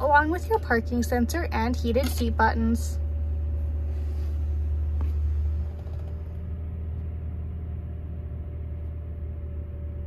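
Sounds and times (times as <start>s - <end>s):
low rumble inside truck cab: 0.0s - 10.0s.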